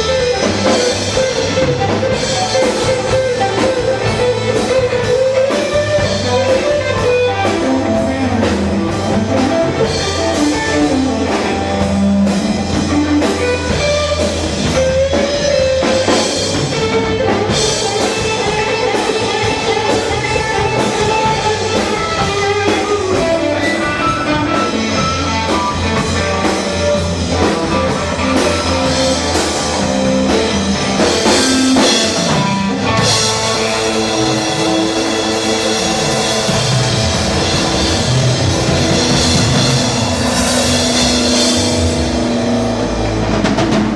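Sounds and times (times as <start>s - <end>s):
drum kit beat: 0.0s - 43.9s
electric guitar melody: 0.0s - 43.9s.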